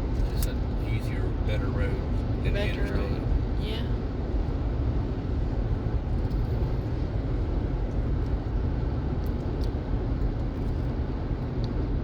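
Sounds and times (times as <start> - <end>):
car road rumble: 0.0 - 12.0.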